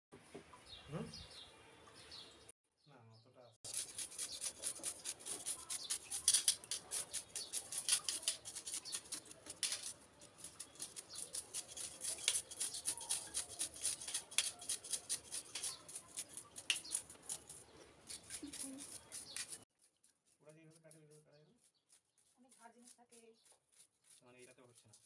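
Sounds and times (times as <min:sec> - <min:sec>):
knife scraping fish scales: 0:03.7 - 0:25.0.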